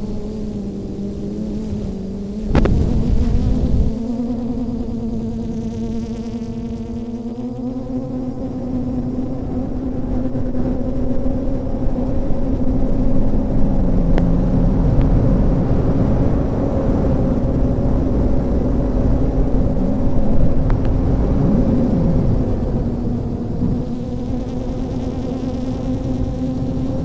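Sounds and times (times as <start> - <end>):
drone motors whining: 0.0 - 27.0
wind buffeting recorder: 1.6 - 5.8, 8.2 - 27.0.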